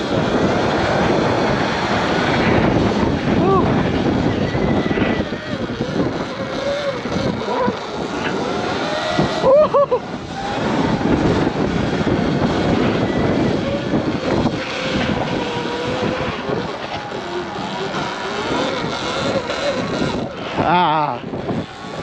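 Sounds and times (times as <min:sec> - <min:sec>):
faint wavering whine: 0:00.0 - 0:22.0
road noise: 0:00.0 - 0:22.0
wind buffeting microphone: 0:00.0 - 0:22.0.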